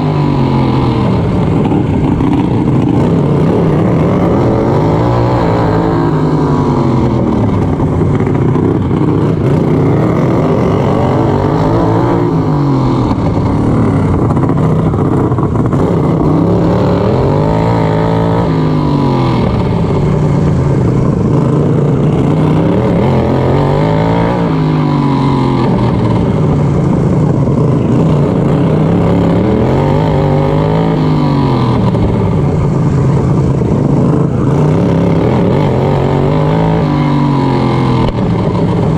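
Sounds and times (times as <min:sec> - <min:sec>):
lawnmower engine running hard: 0:00.0 - 0:38.9.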